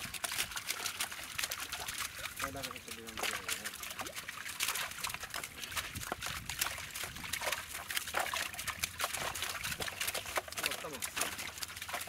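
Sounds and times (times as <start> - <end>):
shallow water splashing and trickling: 0.0 - 12.0.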